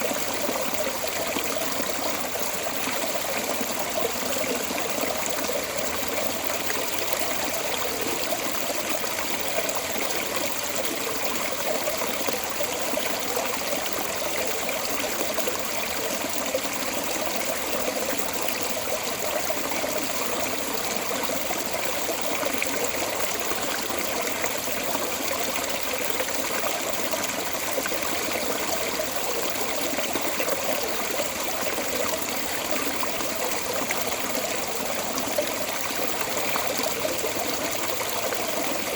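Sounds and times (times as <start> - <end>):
water trickling from drain: 0.0 - 38.9.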